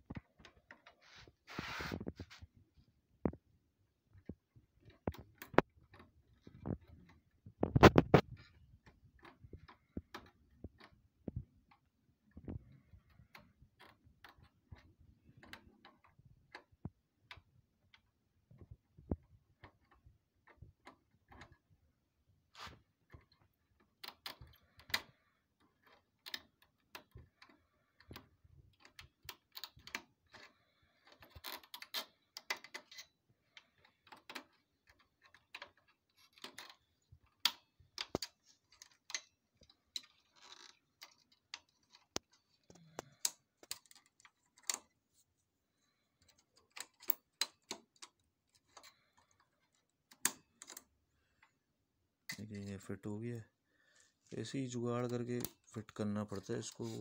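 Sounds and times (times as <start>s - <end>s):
plastic and metal parts clicking: 4.2s - 21.7s, 22.6s - 51.6s, 55.0s - 57.0s.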